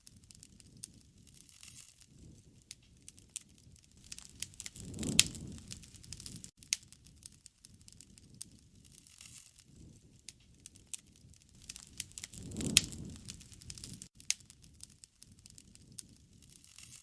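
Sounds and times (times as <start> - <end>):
campfire crackling: 0.0 - 17.0
low rumble of flames: 0.0 - 17.0
sharp pops of fire: 0.1 - 17.0.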